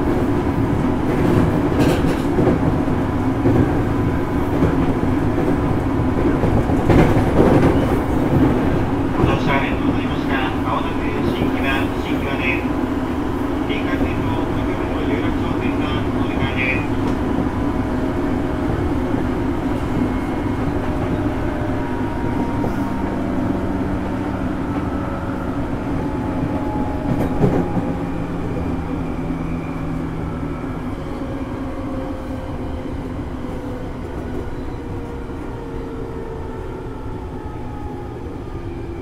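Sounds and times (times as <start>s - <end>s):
train running noise from inside: 0.0s - 39.0s.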